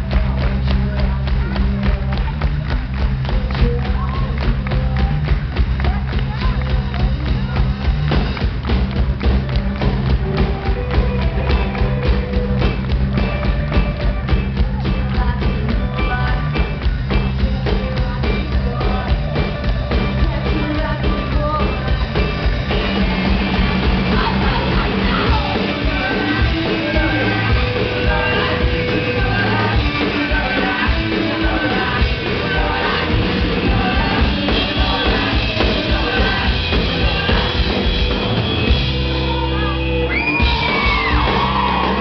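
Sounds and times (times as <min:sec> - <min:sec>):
electric guitars: 0:00.0 - 0:42.0
fast drum beat: 0:00.0 - 0:42.0
live rock band playing: 0:00.0 - 0:42.0.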